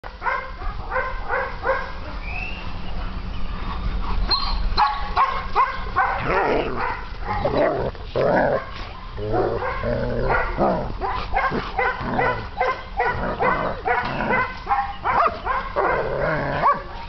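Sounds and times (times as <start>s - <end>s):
dogs barking and yipping: 0.1s - 17.0s.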